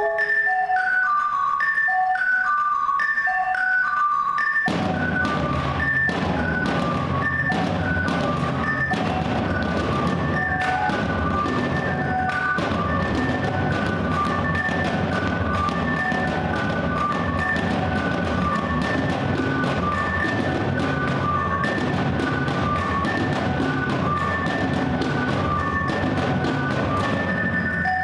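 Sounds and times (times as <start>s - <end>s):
marimba playing high notes: 0.0s - 28.0s
drums playing: 4.7s - 28.0s.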